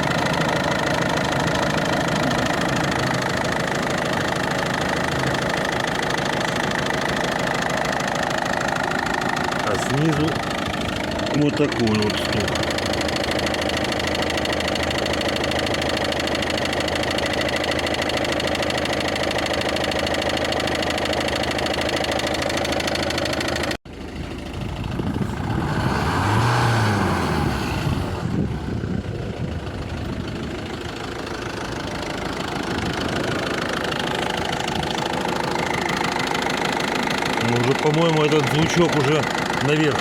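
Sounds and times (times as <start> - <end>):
diesel engine idling with knock: 0.0 - 40.0.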